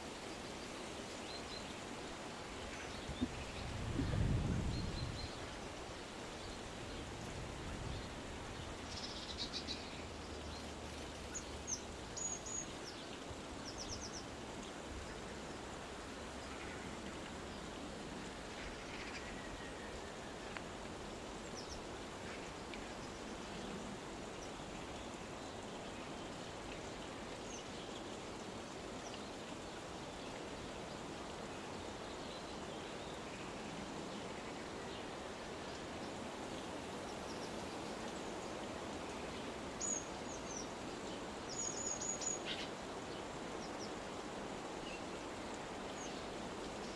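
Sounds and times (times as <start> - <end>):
outdoor hiss: 0.0 - 46.9.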